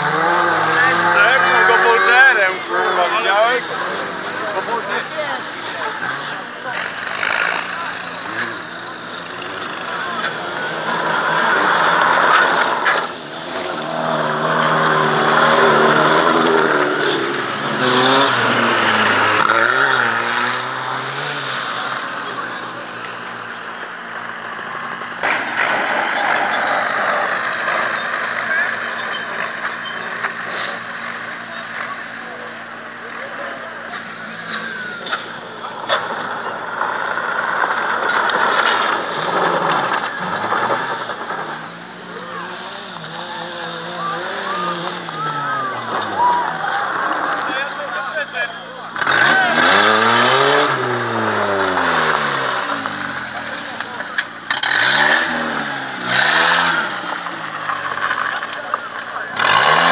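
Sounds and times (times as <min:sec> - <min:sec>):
car engines revving: 0:00.0 - 0:59.9
cars racing past on dirt: 0:00.0 - 0:59.9
tyres rushing on gravel: 0:00.0 - 0:59.9.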